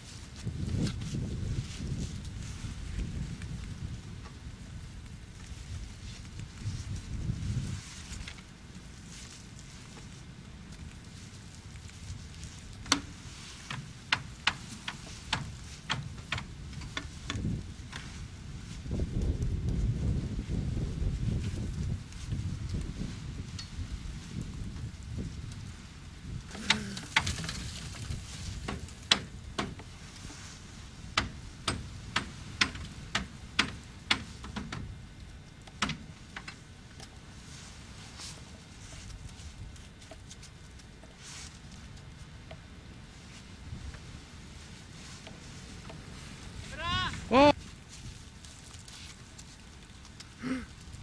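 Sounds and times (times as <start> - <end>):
faint steady hiss: 0.0 - 51.0
low wind rumble: 0.0 - 51.0.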